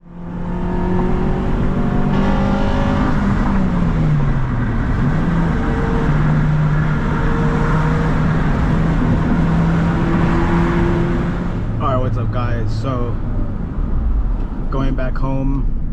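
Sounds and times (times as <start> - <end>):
car engine running: 0.0 - 15.9
road noise: 0.0 - 15.9.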